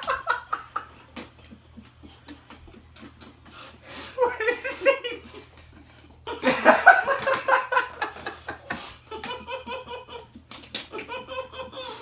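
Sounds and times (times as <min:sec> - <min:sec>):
young men laughing: 0:00.0 - 0:03.0, 0:04.2 - 0:05.4, 0:06.0 - 0:12.0.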